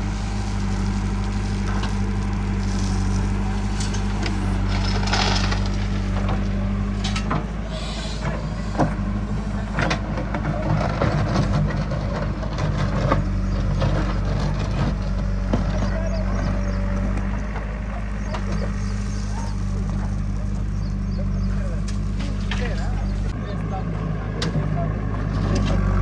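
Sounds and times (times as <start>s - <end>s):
heavy diesel engine running: 0.0s - 26.0s
knocks and clanks: 0.6s - 23.4s.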